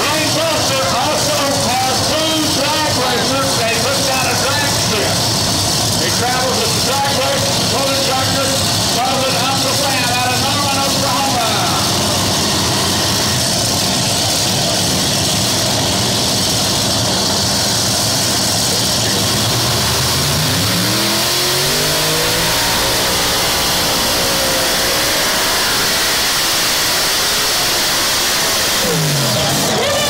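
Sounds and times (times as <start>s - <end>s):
loud engine revving: 0.0s - 30.0s.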